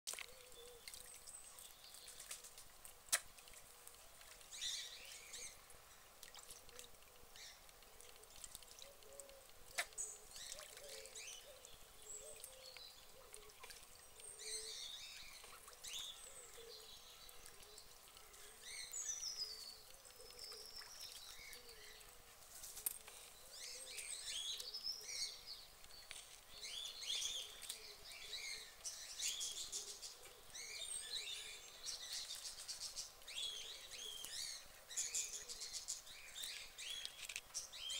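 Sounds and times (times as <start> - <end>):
songbirds chirping: 0.1 - 37.9
water trickling: 0.1 - 37.9.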